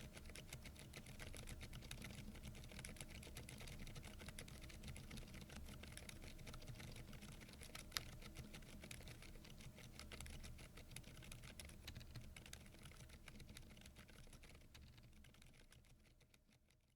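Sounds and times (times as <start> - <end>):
soft mechanical keyboard typing: 0.0 - 16.9.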